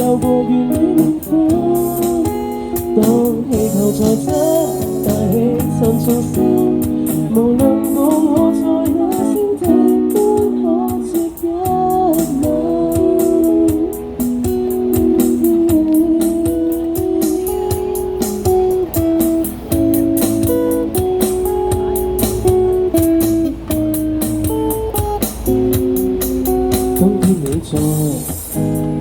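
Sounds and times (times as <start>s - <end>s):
guitar chords strummed: 0.0s - 29.0s.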